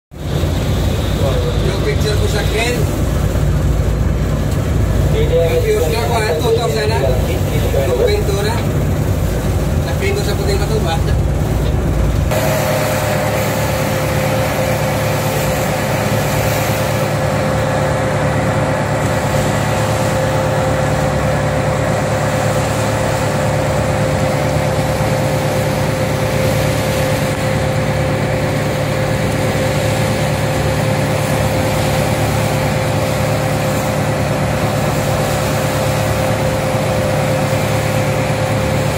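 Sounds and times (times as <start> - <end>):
rushing noise: 0.1 - 38.9
tugboat diesel engine drone: 0.1 - 38.9
thin steady whine: 0.2 - 38.9.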